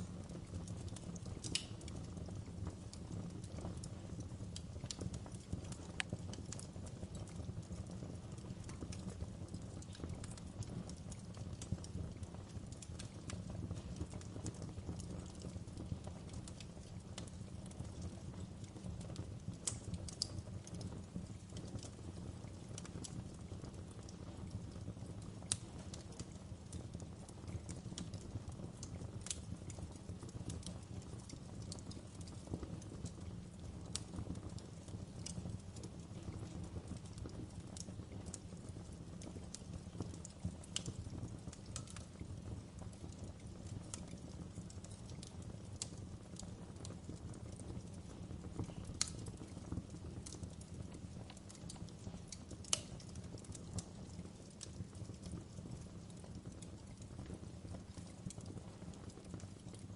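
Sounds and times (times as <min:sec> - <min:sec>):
low rumble of flames: 0:00.0 - 0:59.9
wood fire crackling in a fireplace: 0:00.0 - 0:59.9.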